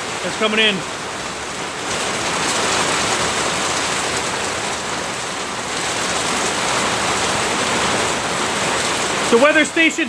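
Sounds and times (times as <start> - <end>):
heavy rain hiss: 0.0 - 10.0.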